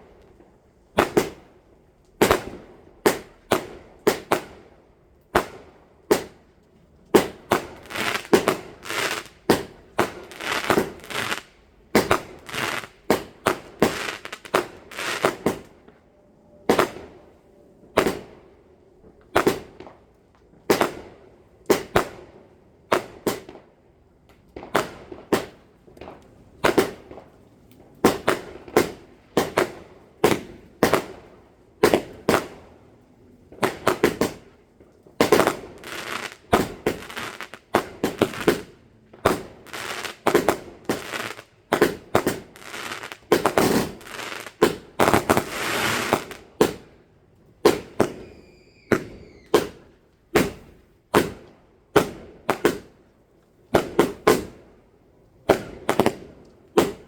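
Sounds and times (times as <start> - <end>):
fireworks banging and crackling: 0.0 - 4.7, 5.3 - 16.0, 16.7 - 17.2, 17.9 - 32.8, 33.4 - 47.0, 47.6 - 53.0, 53.7 - 54.7, 55.4 - 57.0.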